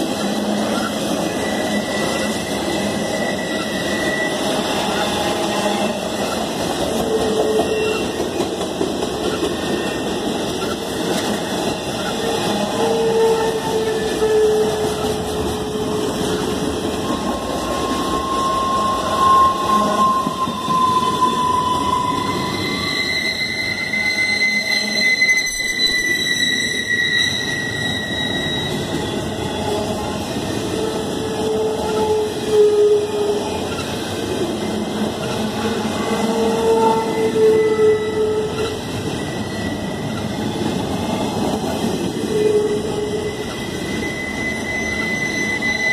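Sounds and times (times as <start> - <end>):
freight train rumbling past: 0.0 - 45.9.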